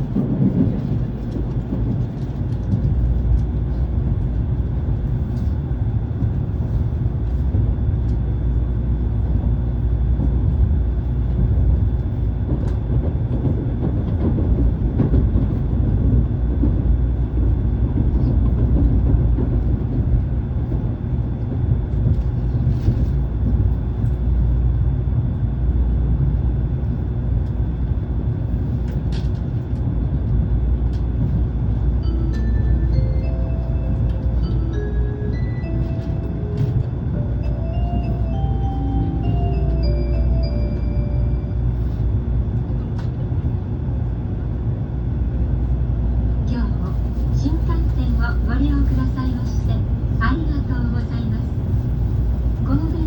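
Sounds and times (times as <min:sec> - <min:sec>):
train running low rumble: 0:00.0 - 0:53.0.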